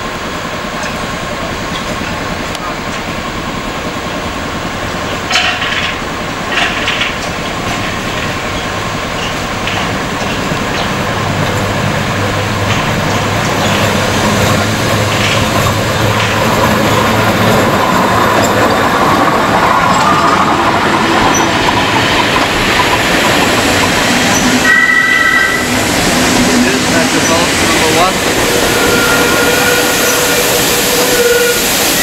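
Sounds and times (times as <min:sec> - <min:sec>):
train wheels rumbling over rails: 0:00.0 - 0:32.0.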